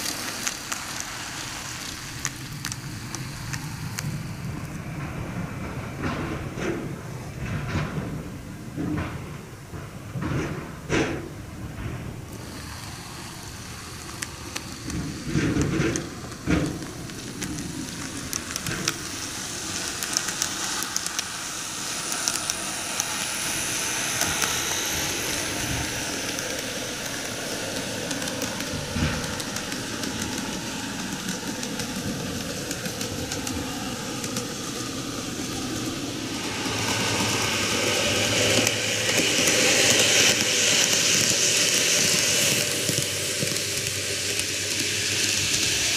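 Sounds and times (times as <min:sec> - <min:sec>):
model train motors whirring: 0:00.0 - 0:45.9
wheels clicking over rails: 0:00.0 - 0:45.9.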